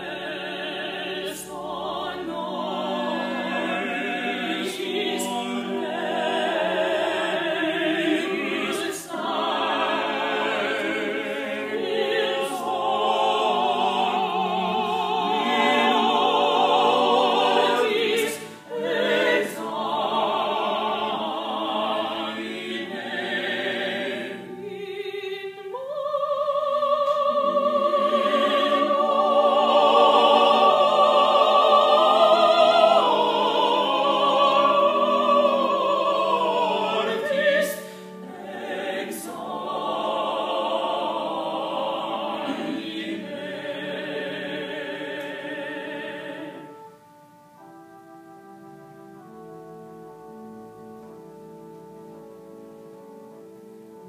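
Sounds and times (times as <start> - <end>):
vocal quartet singing in parts: 0.0 - 54.0.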